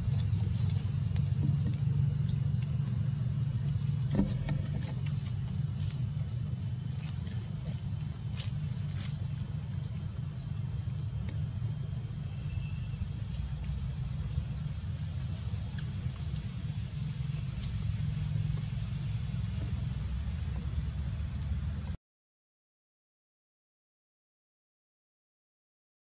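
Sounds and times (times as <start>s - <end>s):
high-pitched insect drone: 0.0s - 22.0s
low steady rumble: 0.0s - 22.0s.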